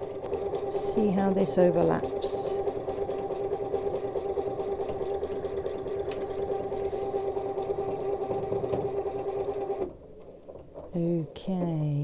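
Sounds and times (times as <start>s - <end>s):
sewing machine running: 0.0s - 10.0s.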